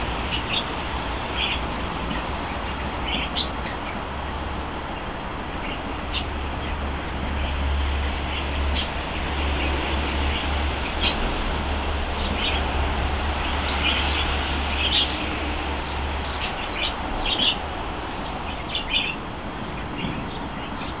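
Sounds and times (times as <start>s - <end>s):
small birds chirping: 0.0s - 4.4s, 5.0s - 11.3s, 12.1s - 21.0s.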